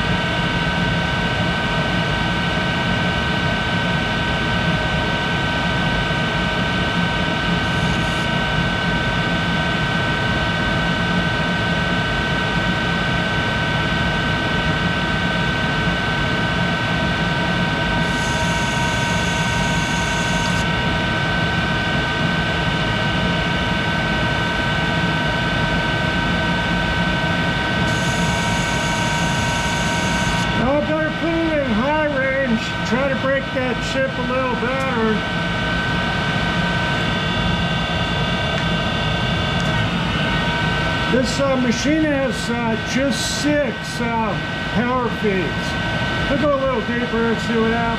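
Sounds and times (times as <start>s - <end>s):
lathe whine over low rumble: 0.0s - 47.9s.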